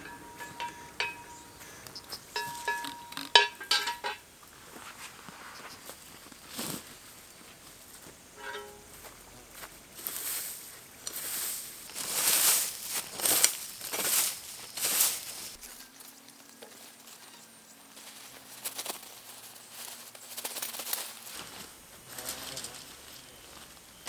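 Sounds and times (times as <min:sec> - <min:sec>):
rustling and crinkling: 0:00.0 - 0:17.3, 0:17.9 - 0:24.0.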